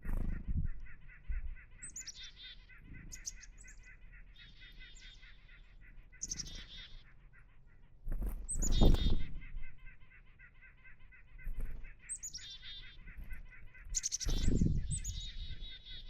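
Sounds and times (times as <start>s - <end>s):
chickadees calling: 0.0s - 16.0s.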